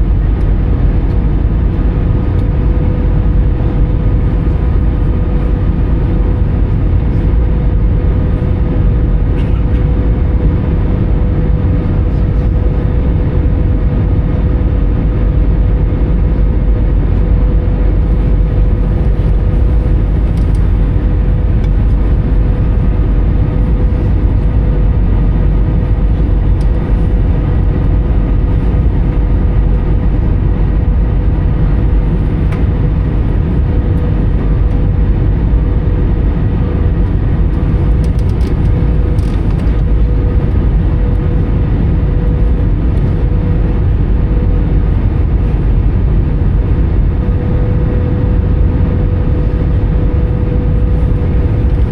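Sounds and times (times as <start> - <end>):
aircraft cabin rush: 0.0 - 51.9
jet engine drone: 0.0 - 51.9
steady hum: 0.0 - 51.9.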